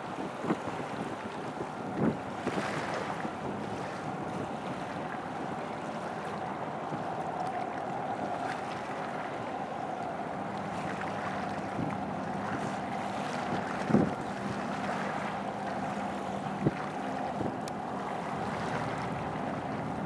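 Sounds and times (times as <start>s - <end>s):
choppy sea water washing: 0.0s - 20.0s
wind: 0.0s - 20.0s
faint engine hum: 1.2s - 20.0s.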